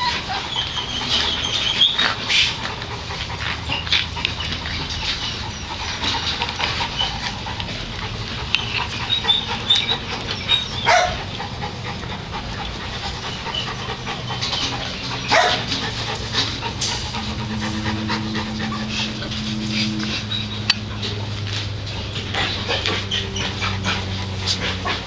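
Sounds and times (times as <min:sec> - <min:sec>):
puppies panting: 0:00.0 - 0:25.0.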